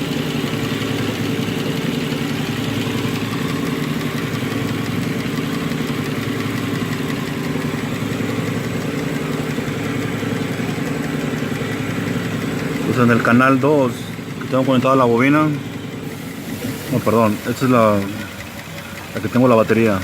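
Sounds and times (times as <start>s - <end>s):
car engine idling with misfire: 0.0s - 20.0s.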